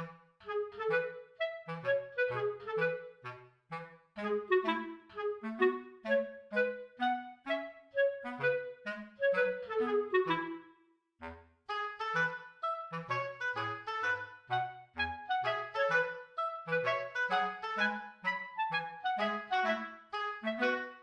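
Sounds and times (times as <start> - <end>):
bouncy melody: 0.0 - 10.8, 11.7 - 21.0.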